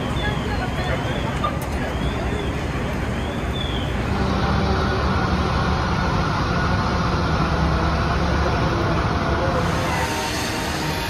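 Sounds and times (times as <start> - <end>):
city street traffic: 0.0 - 11.0
diesel engine rumbling: 0.0 - 11.0.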